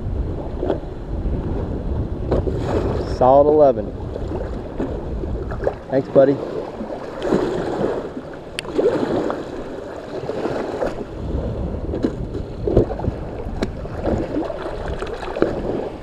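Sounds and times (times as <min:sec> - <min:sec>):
water: 0:00.0 - 0:16.0
wind rumbling on microphone: 0:00.0 - 0:16.0.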